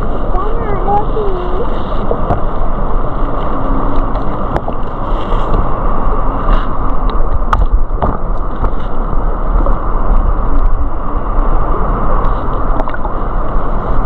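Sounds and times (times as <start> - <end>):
muffled underwater stream rumble: 0.0 - 14.0.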